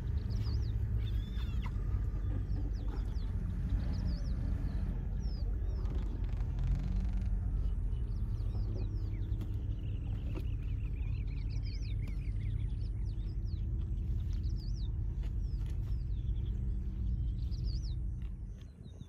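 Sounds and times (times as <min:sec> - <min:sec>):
birds chirping: 0:00.0 - 0:19.0
low steady rumble: 0:00.0 - 0:19.0.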